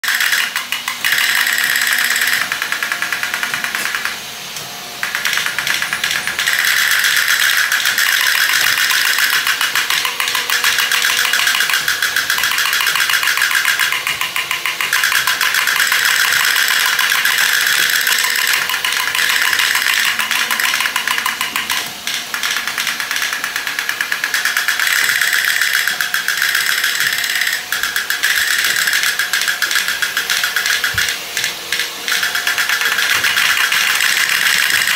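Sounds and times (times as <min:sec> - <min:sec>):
toy tanks clicking rattle: 0:00.0 - 0:04.3, 0:05.0 - 0:34.9.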